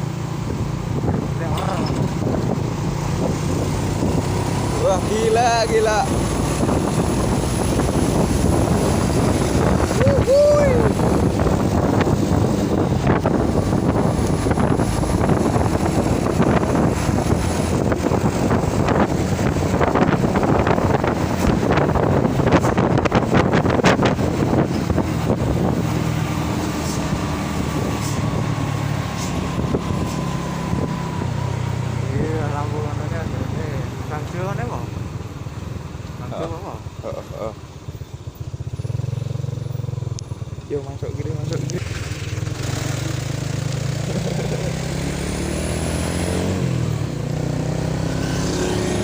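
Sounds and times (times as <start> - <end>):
vehicle engine running: 0.0 - 46.0
road noise: 0.0 - 49.0
rushing wind: 0.0 - 49.0.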